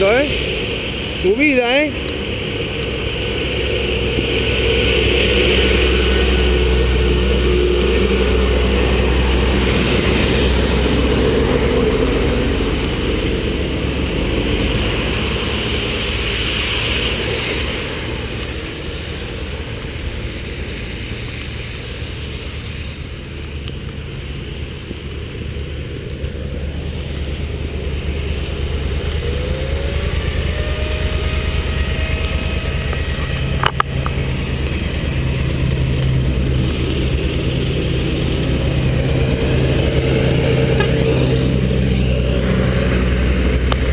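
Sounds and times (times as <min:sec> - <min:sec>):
short rising whine: 0:00.0 - 0:23.7, 0:24.4 - 0:43.9
wind and road noise: 0:00.0 - 0:43.9.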